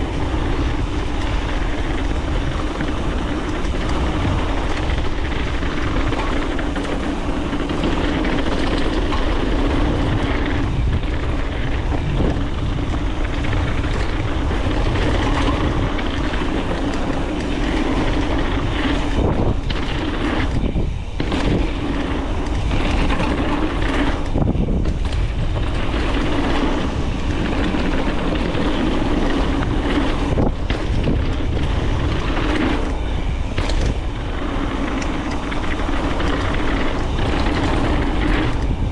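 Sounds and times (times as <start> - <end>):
rumble of bike tyres: 0.0 - 38.9
wind buffeting microphone: 0.0 - 38.9.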